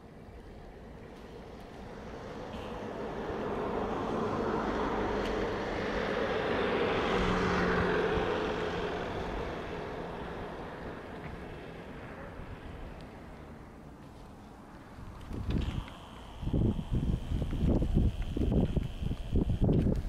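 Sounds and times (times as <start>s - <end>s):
passing vehicle rushing hum: 1.1s - 18.0s.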